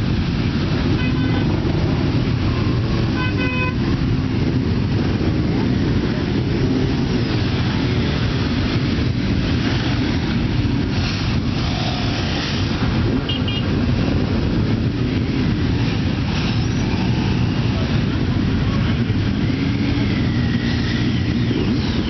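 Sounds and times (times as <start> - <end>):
many motorcycles passing slowly: 0.0 - 22.0.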